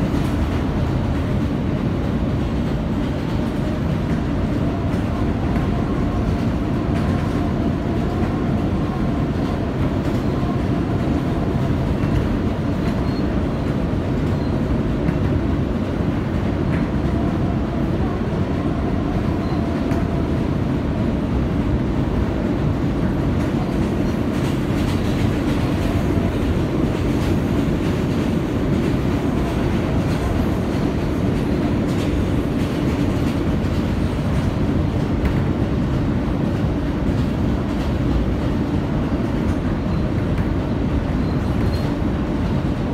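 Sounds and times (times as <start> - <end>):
rail joint clicks: 0.0 - 42.9
train wheels rumbling on rail: 0.0 - 42.9.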